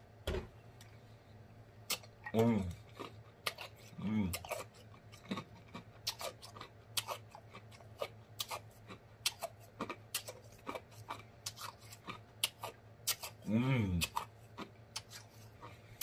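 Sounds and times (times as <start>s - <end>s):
person chewing food: 1.8s - 16.0s.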